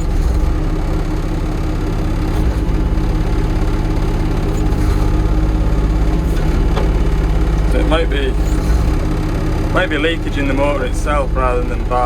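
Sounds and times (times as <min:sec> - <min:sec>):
diesel engine running: 0:00.0 - 0:12.0
grumbly hydraulic motor: 0:00.0 - 0:12.0.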